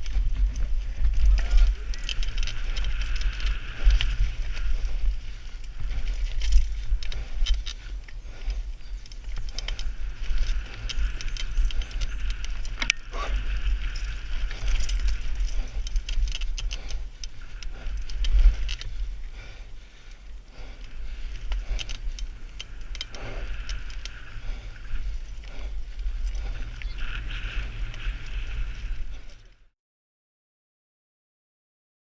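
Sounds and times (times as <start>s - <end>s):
bike tyres hissing on dirt: 0.0s - 29.4s
bike clicking and rattling: 0.0s - 29.7s
wind rumbling on microphone: 0.0s - 29.7s.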